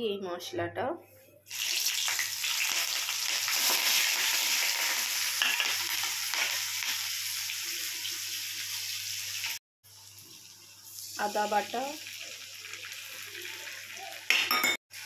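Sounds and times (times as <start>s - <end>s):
seeds sizzling in hot oil: 1.5s - 15.0s.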